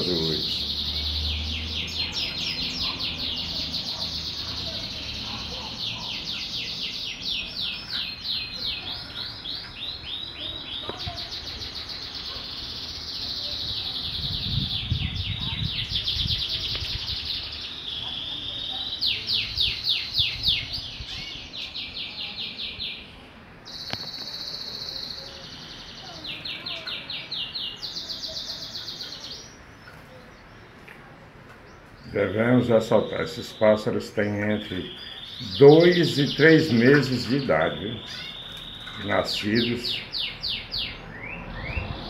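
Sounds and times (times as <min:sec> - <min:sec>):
canaries singing trills: 0:00.0 - 0:31.0, 0:31.6 - 0:42.0.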